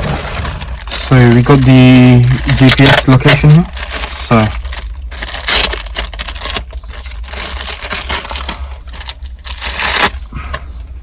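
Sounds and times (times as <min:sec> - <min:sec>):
plastic crinkling and rustling: 0:00.0 - 0:10.7.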